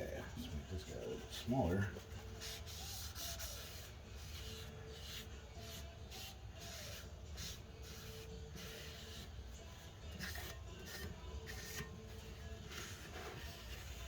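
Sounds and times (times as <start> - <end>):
paper towel rubbing metal: 0.4 - 14.0.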